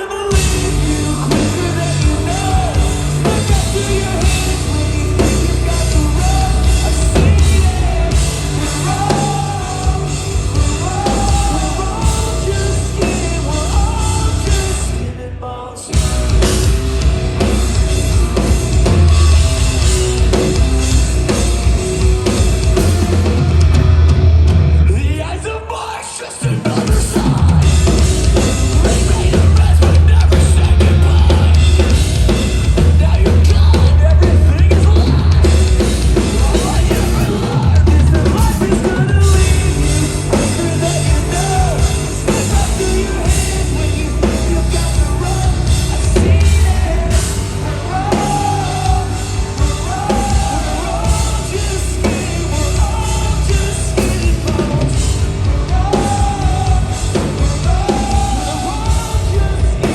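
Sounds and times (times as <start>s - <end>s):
person singing: 0.0s - 23.8s, 24.8s - 59.9s
rock band playing live: 0.0s - 59.9s.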